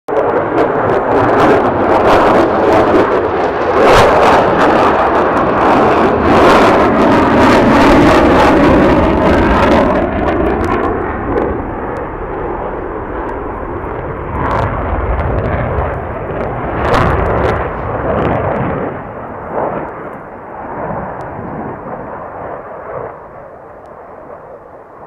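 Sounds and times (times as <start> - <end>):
jet flying past: 0.1 - 25.0.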